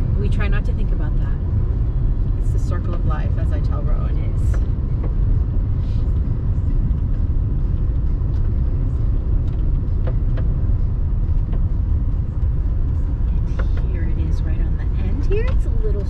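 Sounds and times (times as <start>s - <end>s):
tyres rumbling on dirt road: 0.0s - 16.0s.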